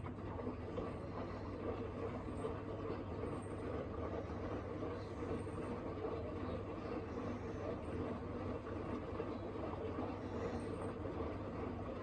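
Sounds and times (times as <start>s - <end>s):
washing machine churning: 0.0s - 12.0s.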